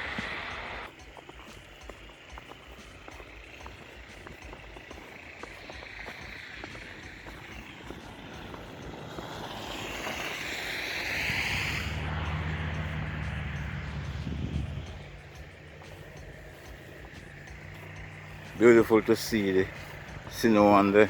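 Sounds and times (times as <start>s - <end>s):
low engine hum: 0.0s - 21.0s
tyre hiss on snowy street: 0.0s - 21.0s.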